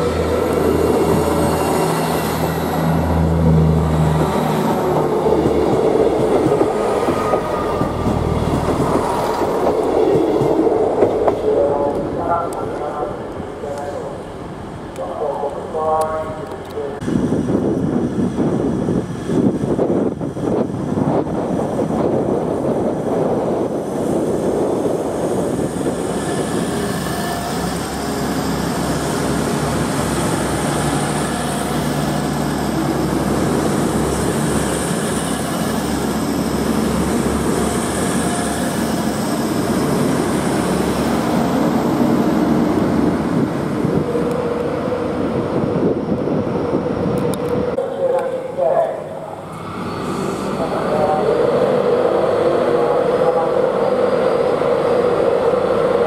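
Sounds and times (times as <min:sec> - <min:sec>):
diesel train rumbling past: 0:00.0 - 0:56.0.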